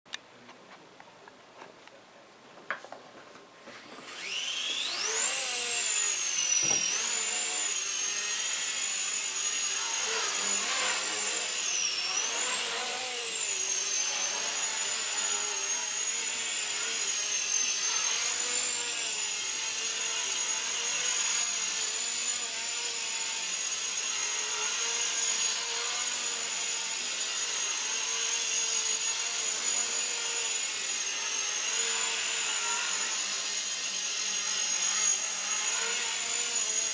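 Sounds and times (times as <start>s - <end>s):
rc helicopter motor whine: 3.7s - 36.9s.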